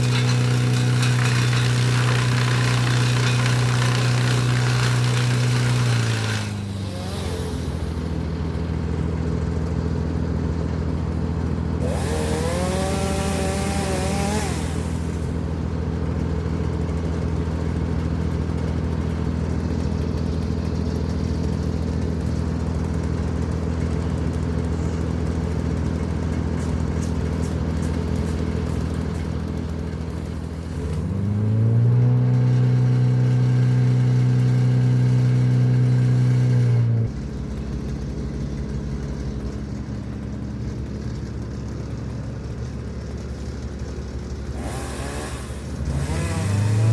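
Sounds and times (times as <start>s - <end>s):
engine running and revving: 0.0s - 46.9s.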